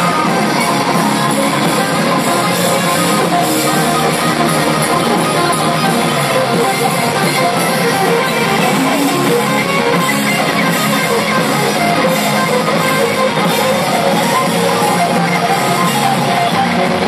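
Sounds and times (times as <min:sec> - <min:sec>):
live rock band with electric guitars: 0:00.0 - 0:17.0.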